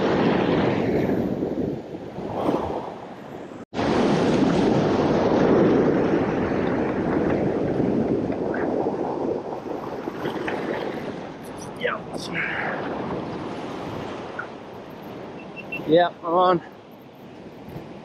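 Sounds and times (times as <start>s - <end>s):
wind on microphone: 0.0s - 15.9s
ocean surf against rocks: 0.0s - 18.0s.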